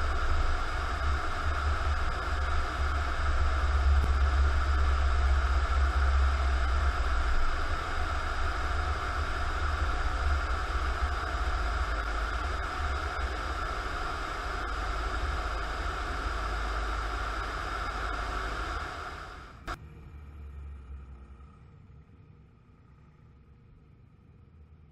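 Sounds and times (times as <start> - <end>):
vehicle engine drone and road noise: 0.0 - 24.9.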